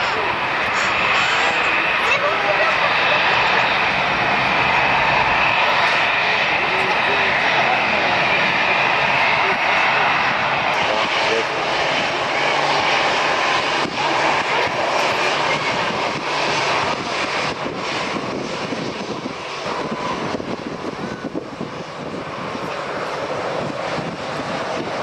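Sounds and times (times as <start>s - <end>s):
jet airliner engines running: 0.0s - 25.0s.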